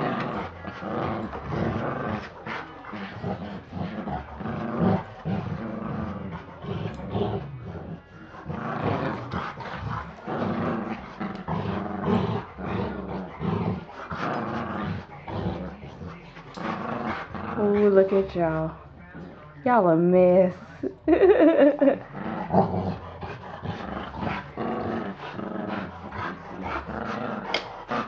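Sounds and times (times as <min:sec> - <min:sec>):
dogs growling: 0:00.0 - 0:28.0.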